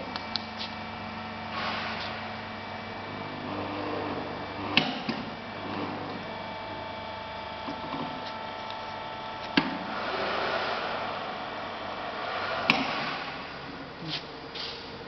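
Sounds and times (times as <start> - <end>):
welding machine humming: 0.0 - 15.0.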